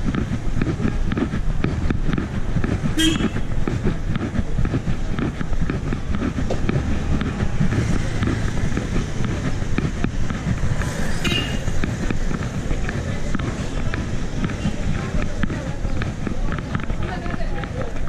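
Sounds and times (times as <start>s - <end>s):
passing traffic: 0.0s - 18.0s
wind on microphone: 0.0s - 18.0s.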